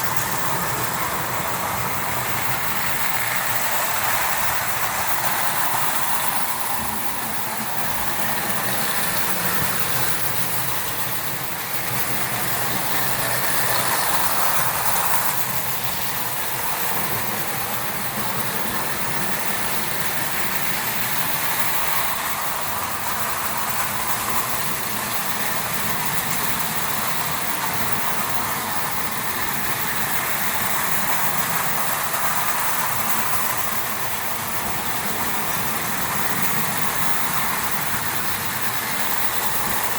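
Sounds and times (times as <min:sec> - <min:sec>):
toy trains whirring on metal track: 0:00.0 - 0:39.9.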